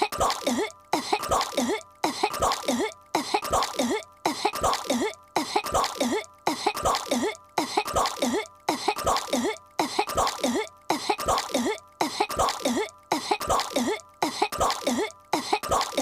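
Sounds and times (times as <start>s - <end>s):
cartoon girl coughing: 0.0s - 16.0s.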